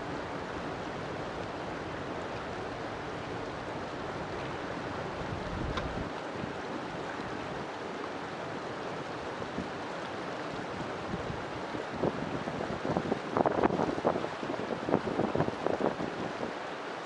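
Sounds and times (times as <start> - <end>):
river water flowing: 0.0 - 17.0
water splashes and gurgles: 0.0 - 17.0.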